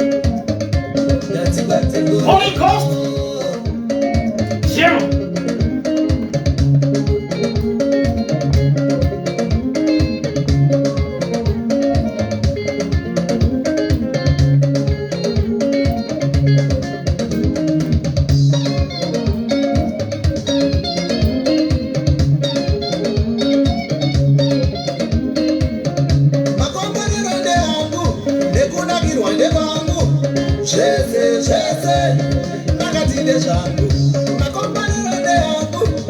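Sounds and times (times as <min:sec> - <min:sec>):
bass guitar with steady beat: 0:00.0 - 0:36.0
plucked electric guitar: 0:00.0 - 0:36.0.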